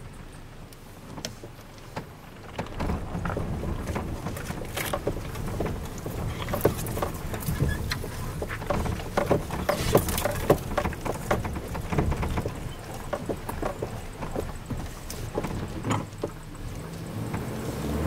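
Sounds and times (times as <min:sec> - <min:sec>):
low engine rumble: 0:00.0 - 0:18.0
wheels knocking over stones: 0:01.1 - 0:18.0.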